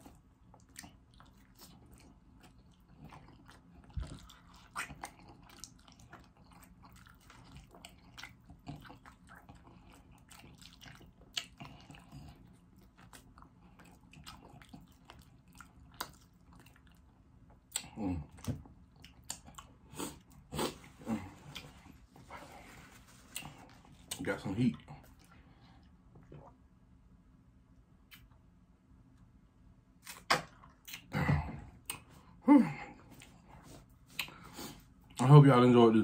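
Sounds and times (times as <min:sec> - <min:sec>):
person chewing food: 0:00.0 - 0:26.7, 0:30.0 - 0:35.2.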